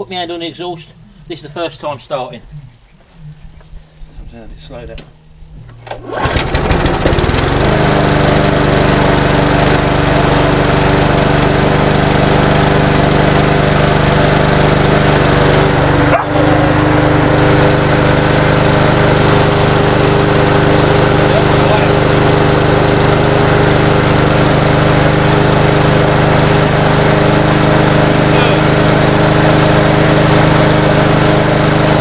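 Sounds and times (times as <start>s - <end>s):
lawnmower engine starting and running: 5.7s - 32.0s.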